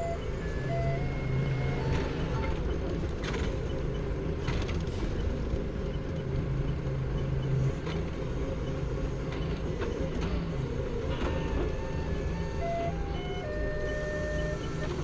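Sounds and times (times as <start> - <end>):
forklift engine running: 0.0 - 15.0.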